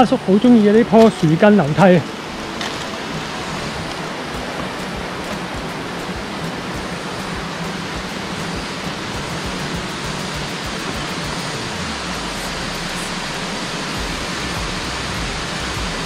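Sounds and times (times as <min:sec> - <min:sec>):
water rushing in stream: 0:00.0 - 0:16.0.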